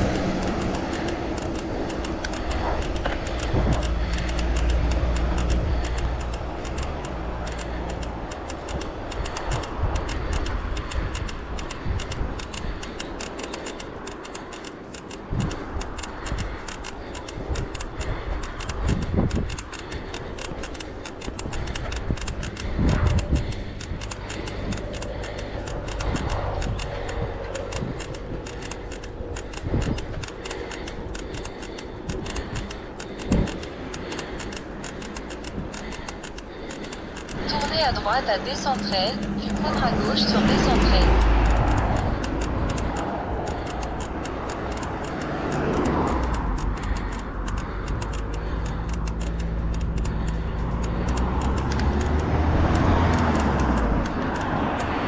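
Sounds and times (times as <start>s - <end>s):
wind rumble on microphone: 0.0s - 14.1s, 15.1s - 36.4s, 37.0s - 55.0s
bicycle freewheel clicking: 0.0s - 55.0s
rapid light bike ticks: 0.0s - 55.0s.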